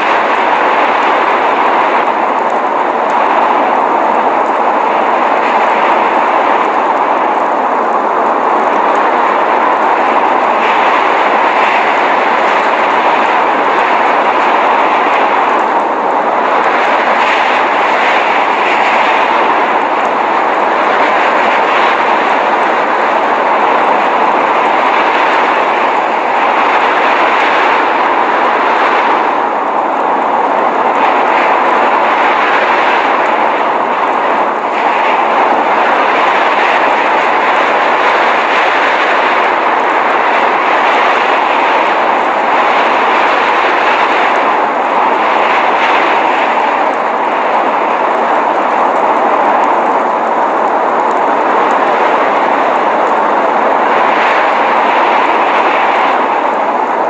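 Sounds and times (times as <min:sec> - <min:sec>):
blizzard wind rushing: 0:00.0 - 0:57.0.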